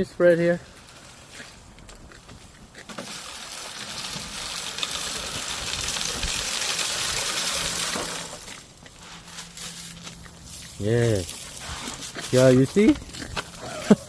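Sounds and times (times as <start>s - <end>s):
ice melt grains pattering: 0.1s - 14.0s.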